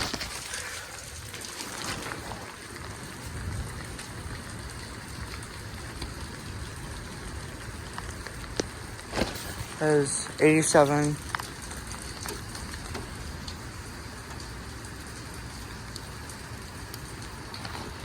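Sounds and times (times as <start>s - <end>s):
rain falling: 0.0s - 18.0s
raindrops tapping: 0.0s - 18.0s.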